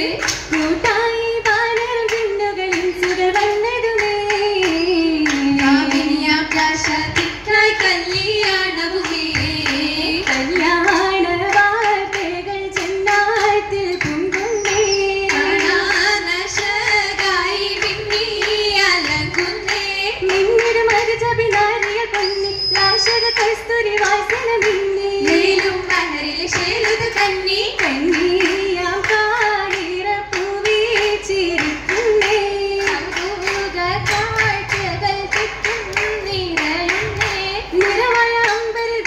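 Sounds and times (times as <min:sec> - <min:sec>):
rhythmic hand claps: 0:00.0 - 0:39.0
women singing together: 0:00.0 - 0:39.0.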